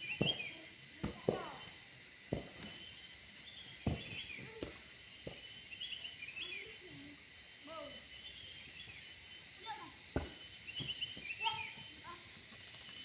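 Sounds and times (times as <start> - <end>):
lower pitched bird calls: 0.0 - 0.6, 2.6 - 13.0
small birds chirping: 0.0 - 13.0.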